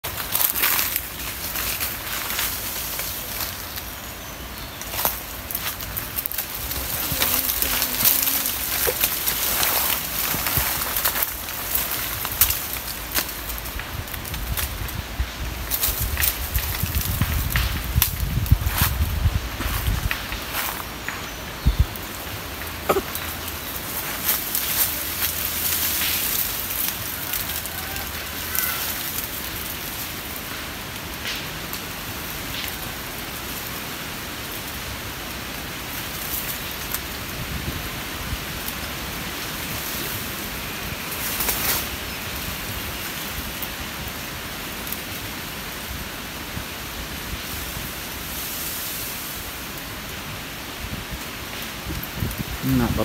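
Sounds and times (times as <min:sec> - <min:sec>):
forest ambience hiss: 0:00.0 - 0:53.0
leaves and branches rustling: 0:00.0 - 0:53.0.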